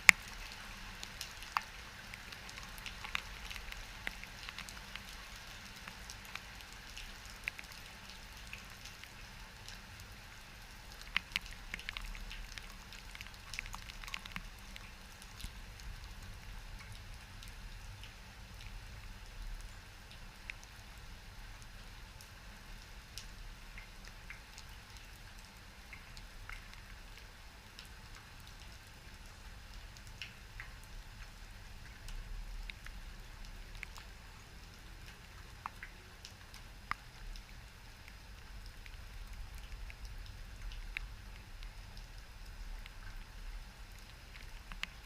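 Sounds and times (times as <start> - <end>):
rain falling: 0.0 - 45.0.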